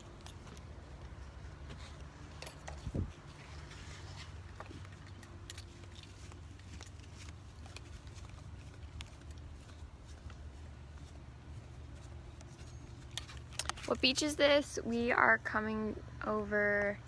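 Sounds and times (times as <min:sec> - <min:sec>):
footsteps clicking and tapping: 0:00.0 - 0:14.0.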